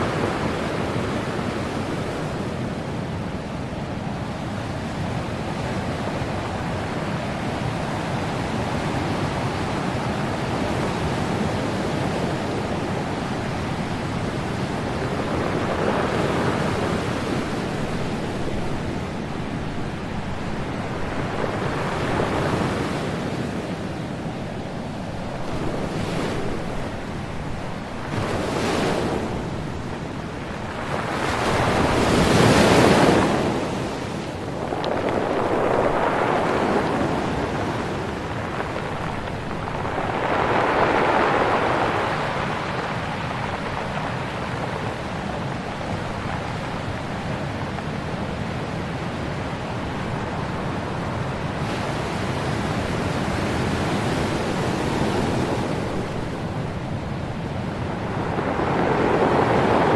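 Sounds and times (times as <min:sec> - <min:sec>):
ocean waves breaking: 0:04.4 - 0:59.9.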